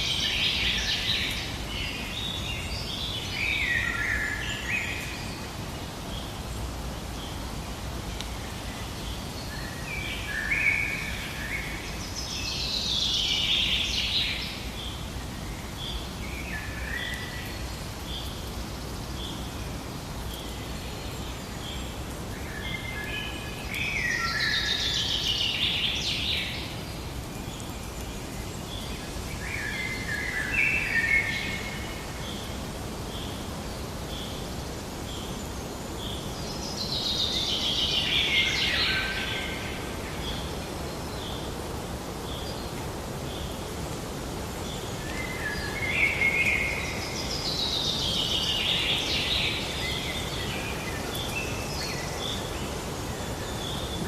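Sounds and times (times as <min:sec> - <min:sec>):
background hiss: 0:00.0 - 0:54.0
songbirds singing: 0:00.0 - 0:54.0.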